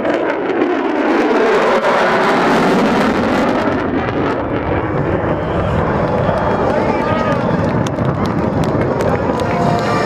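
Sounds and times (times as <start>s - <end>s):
deep jet rumble: 0.0s - 10.0s
jet engine roar: 0.0s - 10.0s.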